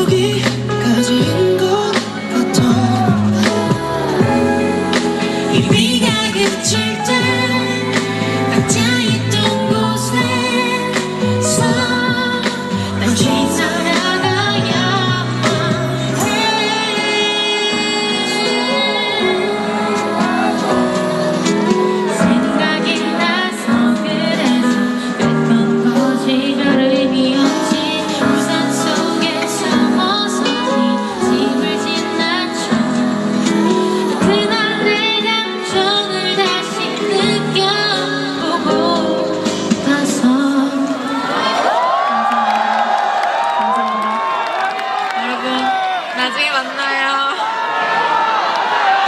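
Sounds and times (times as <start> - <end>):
woman singing: 0.0 - 44.6, 45.2 - 47.4
backing music: 0.0 - 45.6.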